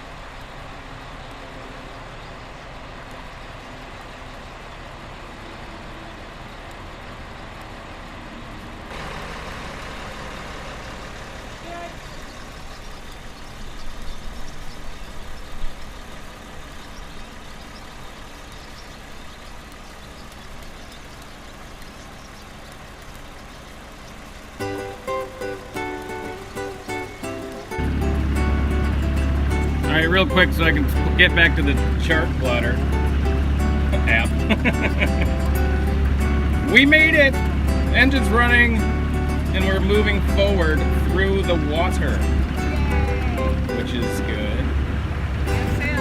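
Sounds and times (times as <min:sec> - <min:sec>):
heavy engine running: 0:00.0 - 0:46.0.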